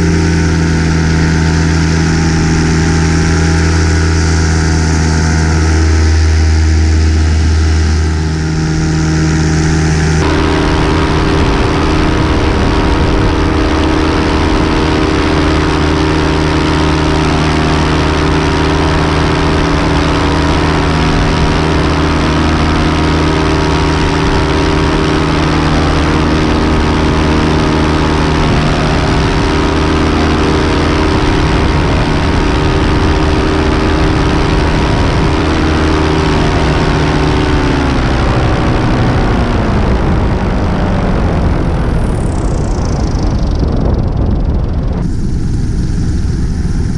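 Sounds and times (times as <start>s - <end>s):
paramotor engine and propeller: 0.0s - 46.9s.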